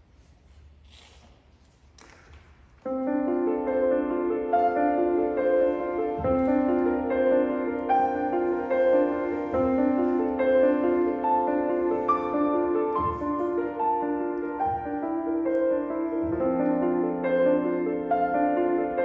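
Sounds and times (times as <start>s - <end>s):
solo grand piano: 2.8s - 19.0s.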